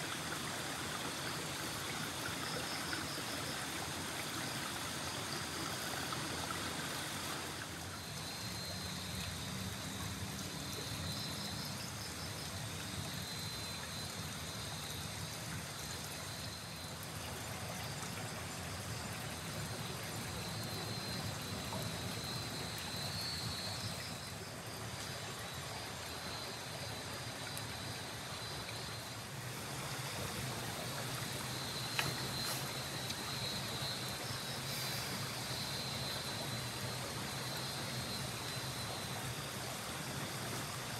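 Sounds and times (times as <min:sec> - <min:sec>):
river trickling over stones: 0:00.0 - 0:40.9.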